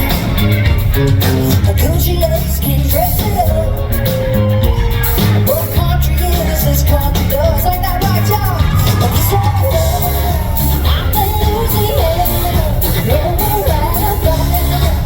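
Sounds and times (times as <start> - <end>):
lead singing voice: 0.0 - 15.0
live country band playing: 0.0 - 15.0
steady bass line: 0.0 - 15.0.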